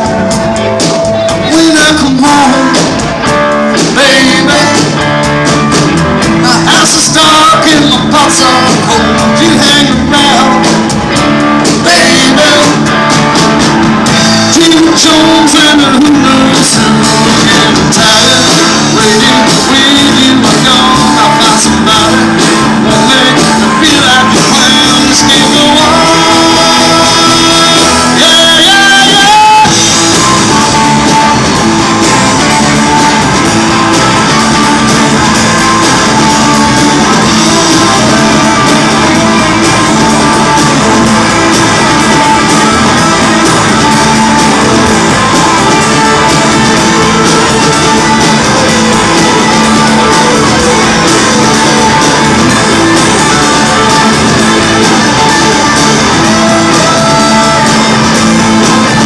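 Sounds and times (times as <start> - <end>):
drums: 0.0 - 59.0
electric guitars: 0.0 - 59.0
live rock band playing: 0.0 - 59.0.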